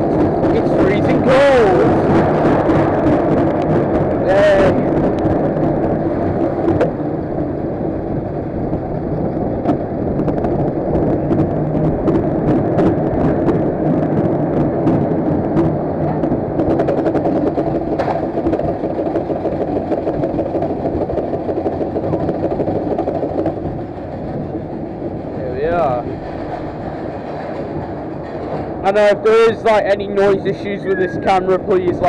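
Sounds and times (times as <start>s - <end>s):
roller coaster train rumble: 0.0s - 32.0s
wheels clicking on track: 0.0s - 32.0s.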